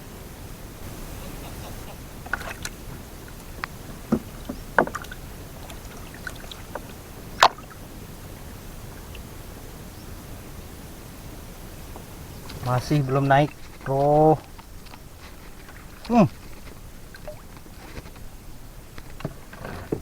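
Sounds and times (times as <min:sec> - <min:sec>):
steady low hiss: 0:00.0 - 0:20.0.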